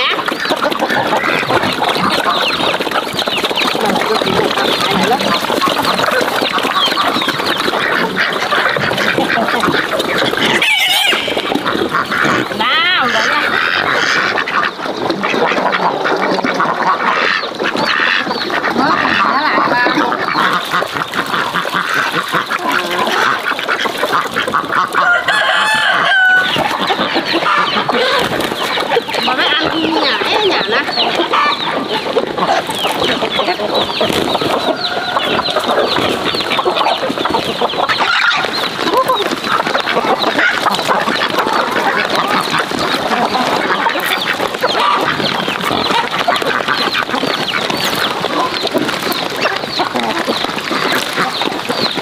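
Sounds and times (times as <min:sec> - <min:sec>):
ducks quacking: 0:00.0 - 0:52.0
hens clucking: 0:00.0 - 0:52.0.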